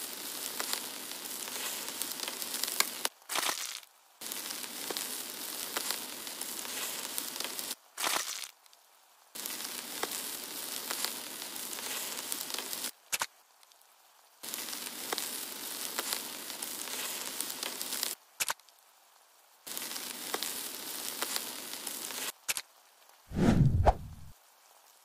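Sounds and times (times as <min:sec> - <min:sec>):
crackling sizzling sound effect: 0:00.0 - 0:25.0.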